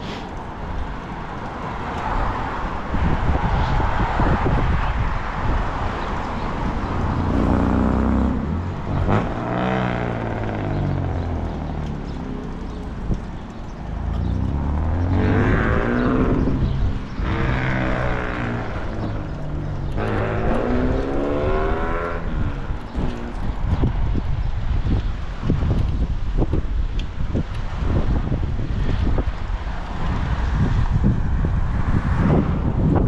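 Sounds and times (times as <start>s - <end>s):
cars passing by: 0.0s - 33.0s
wind rumble on microphone: 0.0s - 33.0s.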